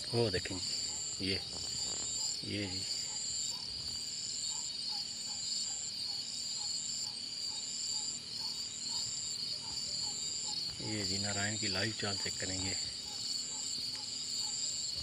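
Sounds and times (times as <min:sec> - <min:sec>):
continuous insect buzz: 0:00.0 - 0:15.0
crickets trilling: 0:00.0 - 0:15.0.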